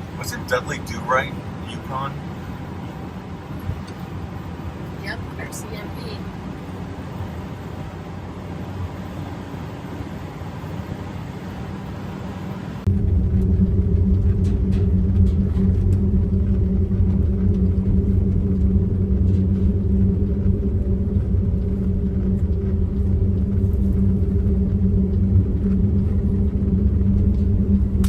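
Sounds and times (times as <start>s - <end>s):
vehicle engine and road drone: 0.0s - 28.0s.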